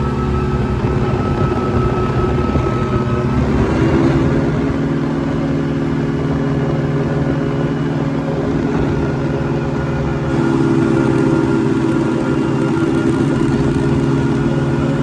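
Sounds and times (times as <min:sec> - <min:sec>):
ultralight aircraft engine and propeller: 0:00.0 - 0:15.0.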